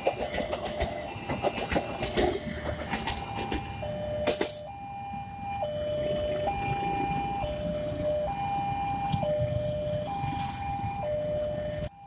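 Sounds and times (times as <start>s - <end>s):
two-tone crossing alarm: 0.0s - 12.0s.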